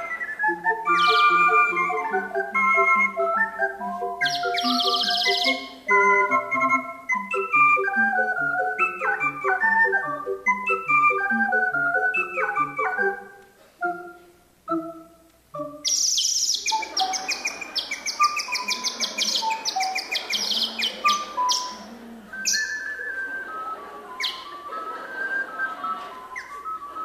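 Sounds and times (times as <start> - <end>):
ocarina ensemble playing: 0.0 - 27.0.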